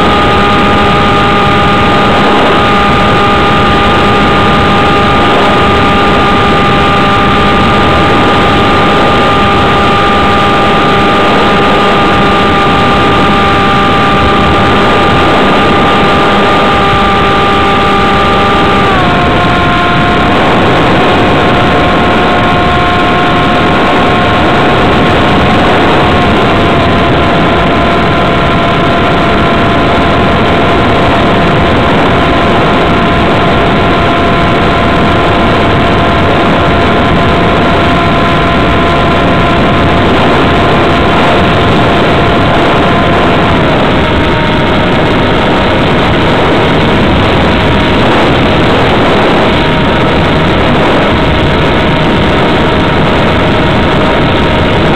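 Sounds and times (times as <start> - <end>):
model plane motor whining: 0.0 - 54.9
wind rushing: 0.0 - 54.9.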